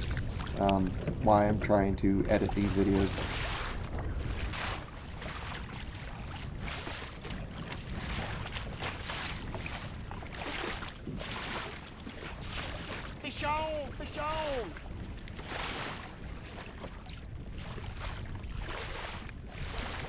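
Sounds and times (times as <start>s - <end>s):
water lapping against a kayak: 0.0s - 20.0s
wind buffeting microphone: 0.0s - 20.0s.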